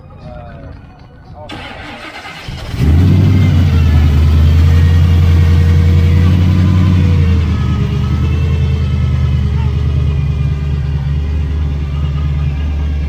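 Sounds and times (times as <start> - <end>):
car engine running: 1.5 - 13.0.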